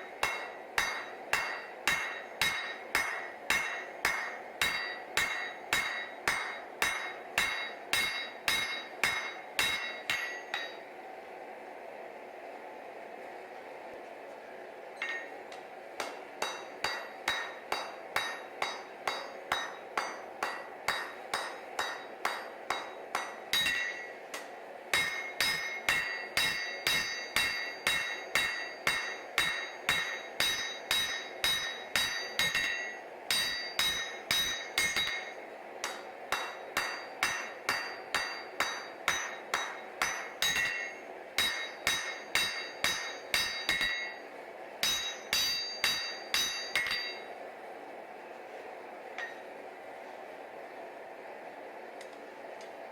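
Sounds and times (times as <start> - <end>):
hammer striking steel on anvil: 0.0 - 10.9, 15.0 - 47.4, 49.2 - 49.5.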